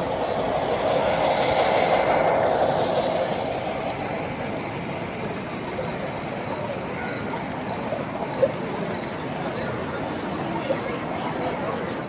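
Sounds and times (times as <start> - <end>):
model train running: 0.0 - 12.0.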